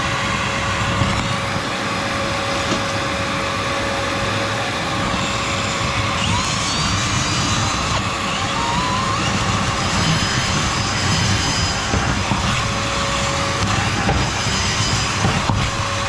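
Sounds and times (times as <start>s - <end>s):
machine drone with airy rush: 0.0s - 16.0s.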